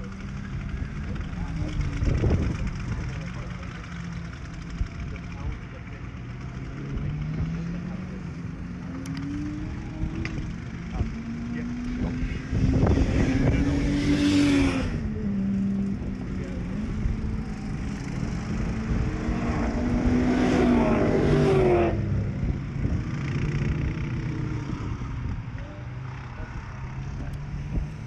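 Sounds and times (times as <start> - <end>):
race car engines revving: 0.0 - 28.0
steady engine drone: 0.0 - 28.0.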